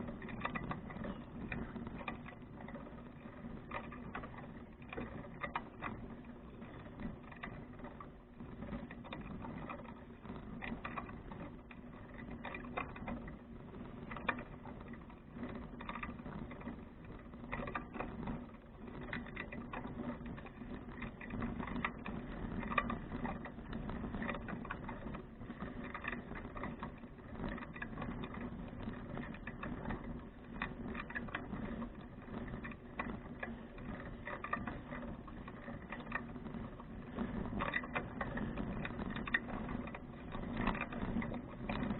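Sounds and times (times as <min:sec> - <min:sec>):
bicycle rattling and clicking: 0:00.0 - 0:41.9
steady low hum: 0:00.0 - 0:41.9.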